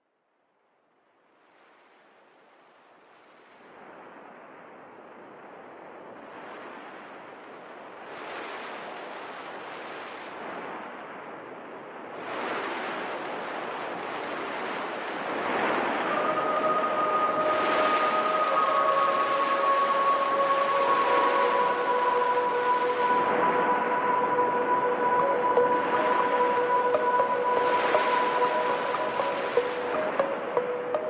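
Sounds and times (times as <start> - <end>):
waves washing on a beach: 1.3 - 31.0.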